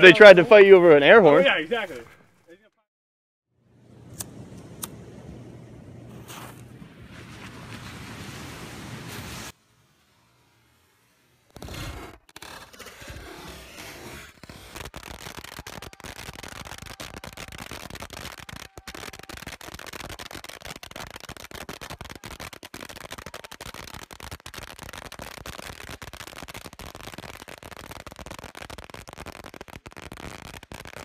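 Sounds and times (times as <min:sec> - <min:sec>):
fireworks crackling: 0:03.8 - 0:31.0.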